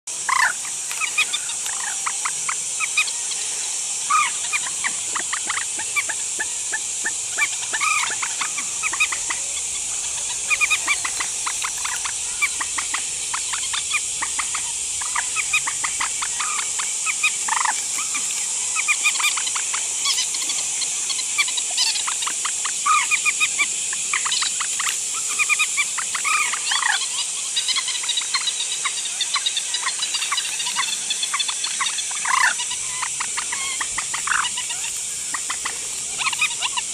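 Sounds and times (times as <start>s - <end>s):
insects hissing: 0.1s - 36.9s
waterbirds clucking: 0.2s - 36.9s.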